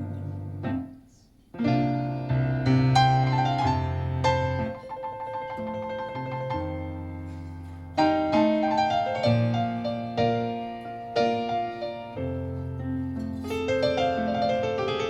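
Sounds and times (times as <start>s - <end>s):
piano ballad through car speakers: 0.0s - 1.0s, 1.6s - 15.0s.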